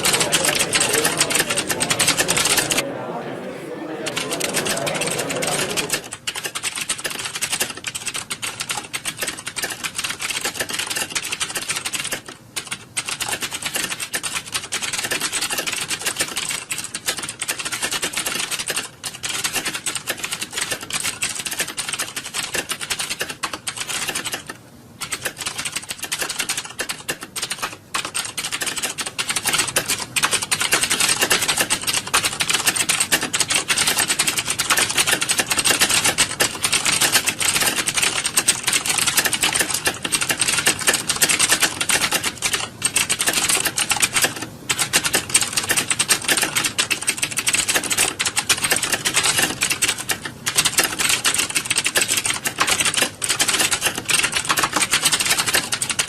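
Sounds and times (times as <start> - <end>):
many keyboards typing: 0.0 - 56.0.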